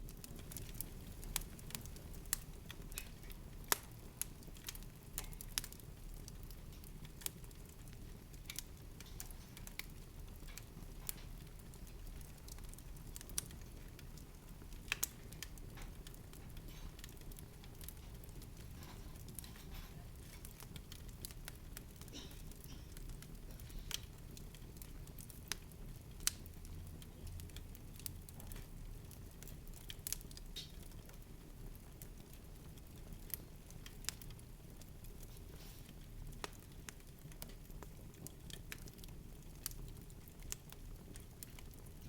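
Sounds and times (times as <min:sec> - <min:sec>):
sharp crackles and ticks: 0:00.0 - 0:42.0.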